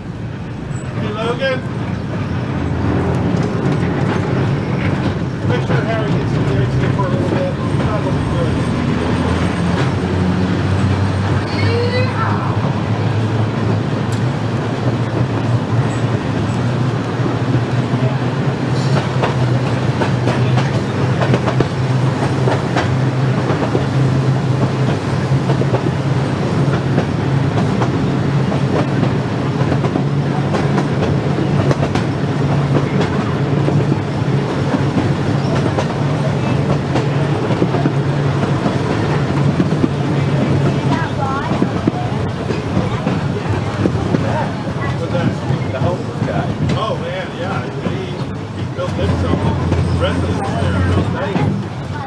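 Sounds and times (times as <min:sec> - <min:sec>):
wheels rumbling on rail: 0:00.0 - 0:52.0.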